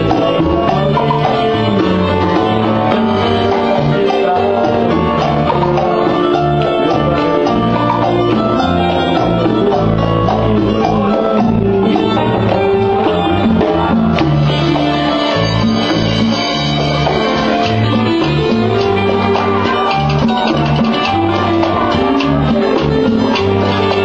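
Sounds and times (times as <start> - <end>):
live latin band playing: 0.0 - 24.0
plucked guitars: 0.0 - 24.0
walking bass line: 0.0 - 24.0.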